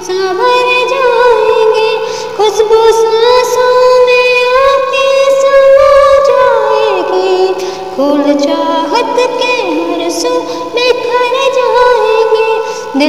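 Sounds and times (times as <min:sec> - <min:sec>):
woman singing with vibrato: 0:00.0 - 0:13.0.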